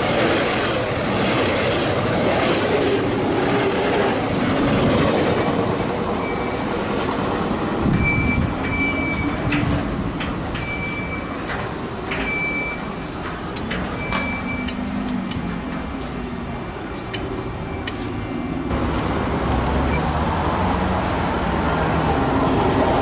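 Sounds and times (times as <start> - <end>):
train wheel-on-rail noise: 0.0 - 23.0.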